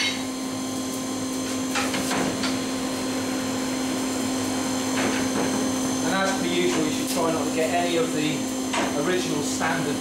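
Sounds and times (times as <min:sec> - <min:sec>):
blower humming: 0:00.0 - 0:10.0.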